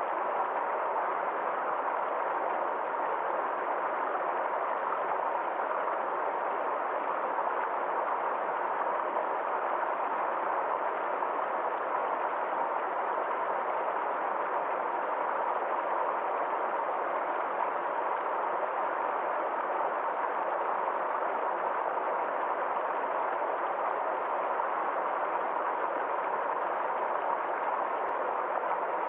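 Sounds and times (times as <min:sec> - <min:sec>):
stream over small waterfall: 0:00.0 - 0:29.0.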